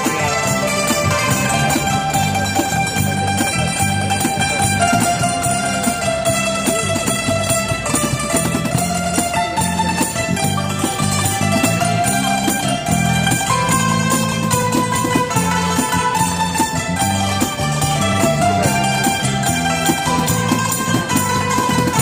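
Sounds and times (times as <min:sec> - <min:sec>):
hammered dulcimers playing: 0:00.0 - 0:22.0.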